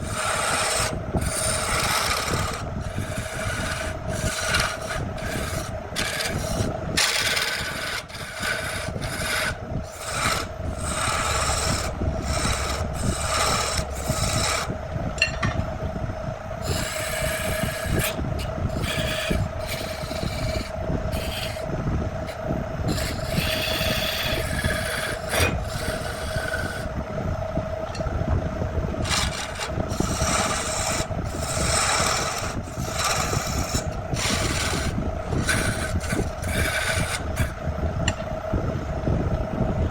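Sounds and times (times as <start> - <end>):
rasping and scraping wood: 0.0 - 14.8, 16.6 - 26.9, 29.0 - 37.6
steady hum: 0.0 - 39.9.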